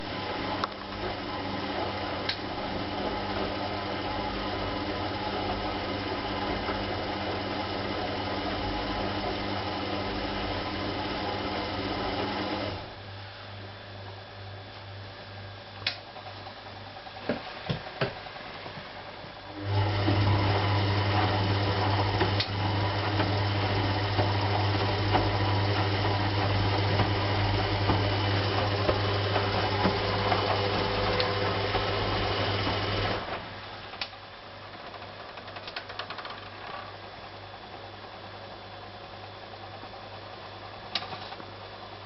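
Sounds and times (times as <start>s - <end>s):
washing machine motor humming: 0.0s - 42.0s.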